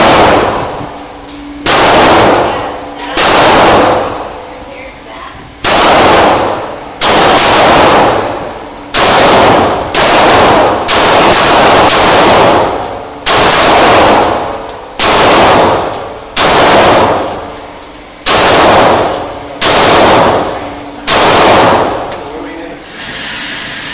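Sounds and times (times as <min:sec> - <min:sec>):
pistol shots: 0:00.0 - 0:01.0, 0:01.6 - 0:04.4, 0:05.6 - 0:22.3.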